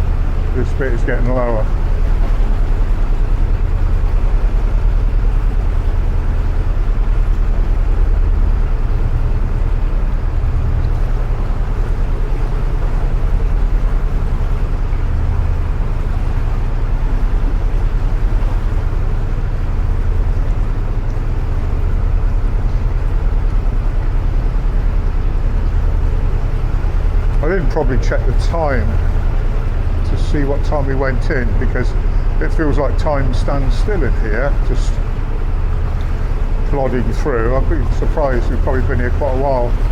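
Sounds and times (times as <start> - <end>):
boat engine throbbing in tunnel: 0.0 - 39.9.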